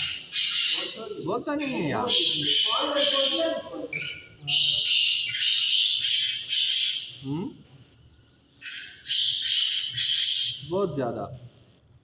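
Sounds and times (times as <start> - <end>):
birds squawking and chattering: 0.0 - 7.3, 8.5 - 11.0.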